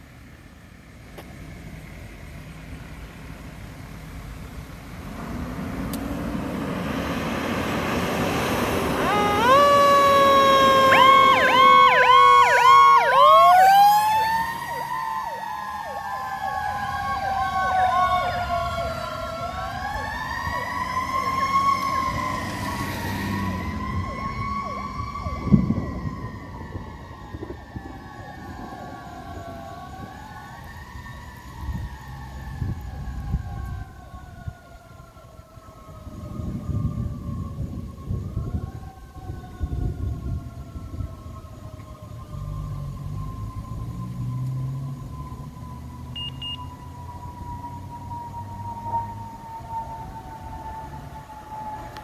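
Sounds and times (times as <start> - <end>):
fire engine passing: 0.0 - 52.0
wailing siren: 6.6 - 52.0
yelping siren: 8.7 - 52.0.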